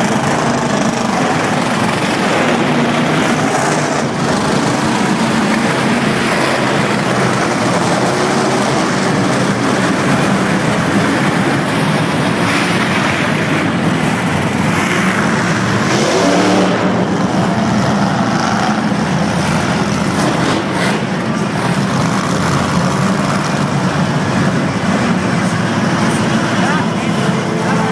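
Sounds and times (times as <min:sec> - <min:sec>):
monster truck engine revving: 0:00.0 - 0:27.9.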